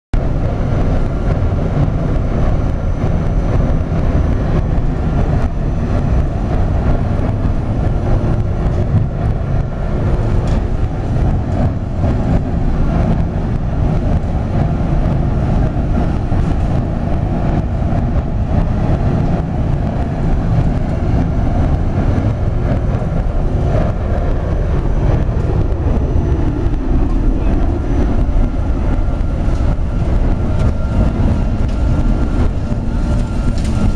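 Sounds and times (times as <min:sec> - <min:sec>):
burner flame and blower rumble: 0:00.1 - 0:33.9.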